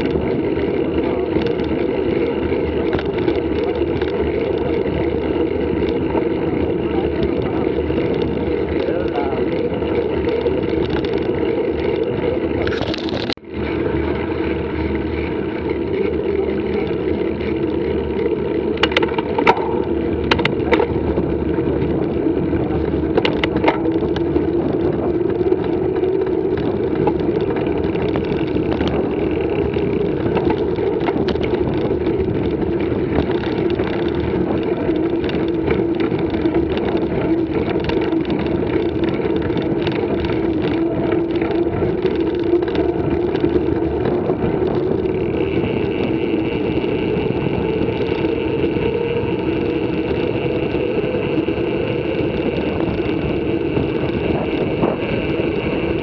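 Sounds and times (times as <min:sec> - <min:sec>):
bike clicks and rattles: 0:00.0 - 0:56.0
bike tyres rolling: 0:00.0 - 0:56.0
wind on microphone: 0:00.0 - 0:56.0.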